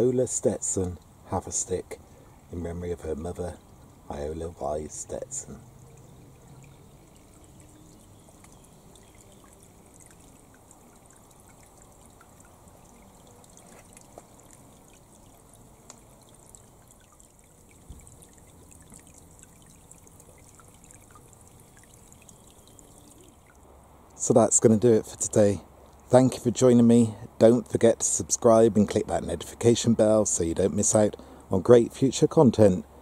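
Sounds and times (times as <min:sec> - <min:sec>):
water drips and splashes: 0:00.0 - 0:32.4
water trickling into pool: 0:00.0 - 0:33.0.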